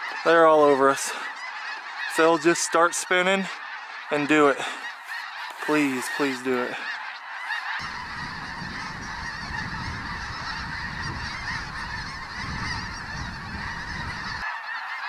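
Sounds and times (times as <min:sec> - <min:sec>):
snow geese calling: 0:00.0 - 0:15.0.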